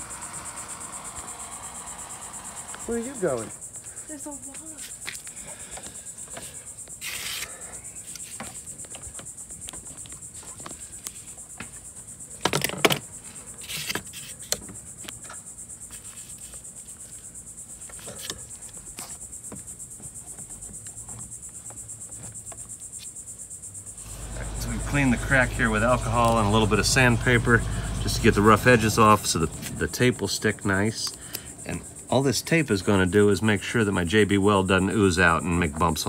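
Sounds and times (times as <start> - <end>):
insects chirping trill: 0.0 - 36.0.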